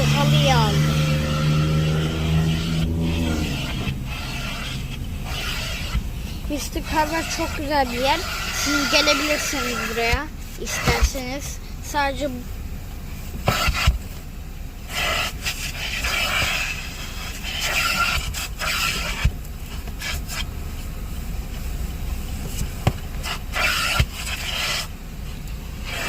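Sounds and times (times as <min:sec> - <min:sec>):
scraping and rubbing on a surface: 0:00.0 - 0:12.1, 0:13.2 - 0:14.2, 0:14.9 - 0:20.9, 0:21.5 - 0:26.0.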